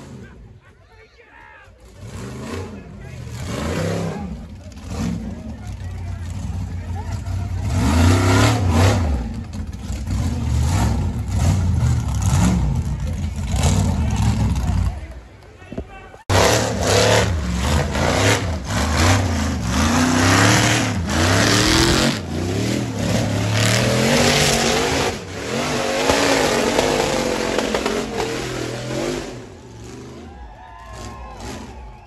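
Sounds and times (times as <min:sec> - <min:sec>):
buggy engine revving hard: 0:00.0 - 0:00.4, 0:01.8 - 0:15.0, 0:16.3 - 0:32.0.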